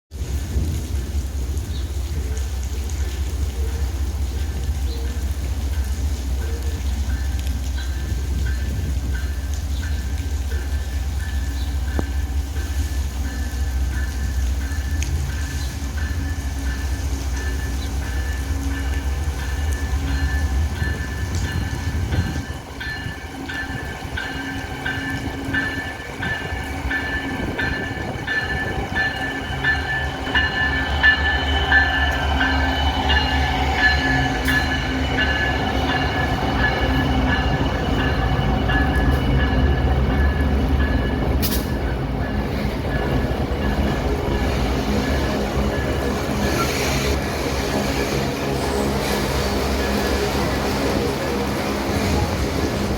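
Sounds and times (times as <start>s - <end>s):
locomotive low rumble: 0.1s - 52.9s
train wagons rolling: 0.1s - 52.9s.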